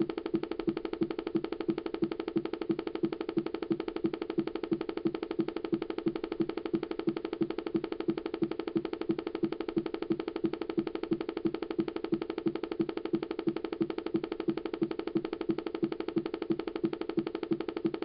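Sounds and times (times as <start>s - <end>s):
computer pulsing noise: 0.0s - 18.0s.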